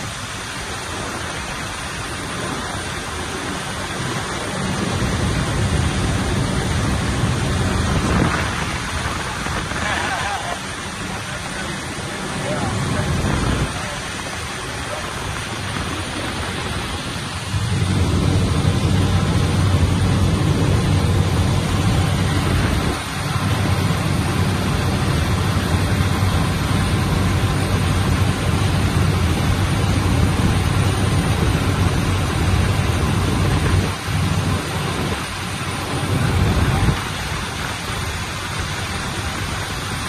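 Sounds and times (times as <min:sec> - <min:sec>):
aircraft engine drone: 0:00.0 - 0:40.0.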